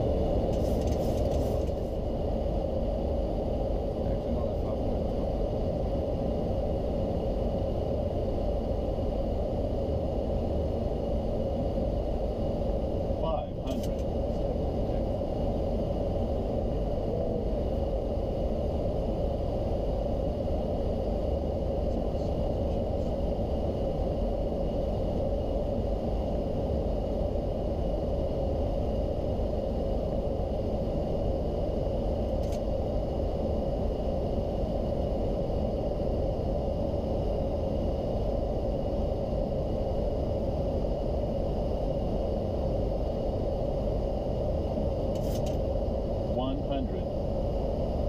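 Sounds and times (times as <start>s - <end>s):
cockpit airflow and engine noise: 0.0s - 48.0s
faint high whine: 0.0s - 48.0s.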